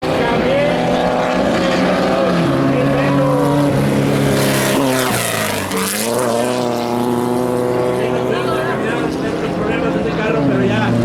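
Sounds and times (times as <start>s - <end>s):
race vehicle engines revving: 0.0s - 11.0s.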